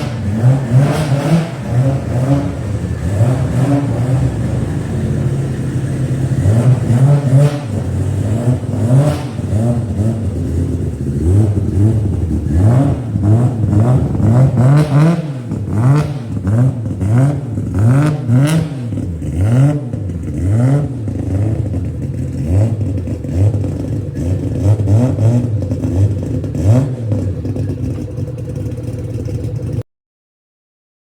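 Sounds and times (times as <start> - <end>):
car engine revving in blips: 0.0 - 29.8.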